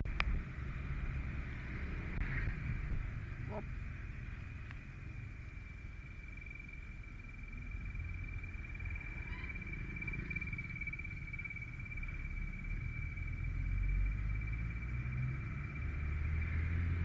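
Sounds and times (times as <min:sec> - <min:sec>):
motorcycle engine and road rumble: 0:00.0 - 0:17.0
steady high-pitched whine: 0:00.1 - 0:17.0.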